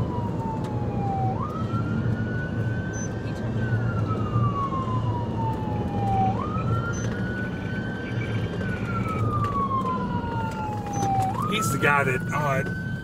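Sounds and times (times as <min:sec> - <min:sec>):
police siren wailing: 0:00.0 - 0:13.0
road noise: 0:00.0 - 0:13.0.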